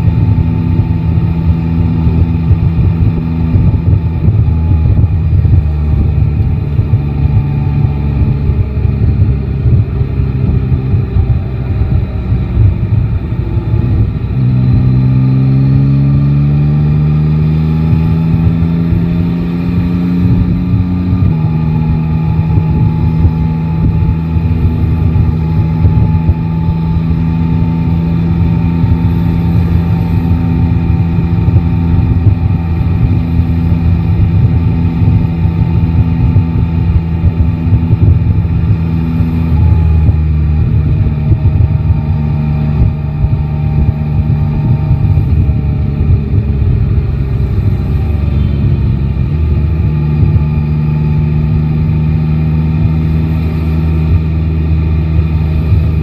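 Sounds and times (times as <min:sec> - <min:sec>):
motorcycle engine running: 0:00.0 - 0:56.0
traffic rumble: 0:00.0 - 0:56.0.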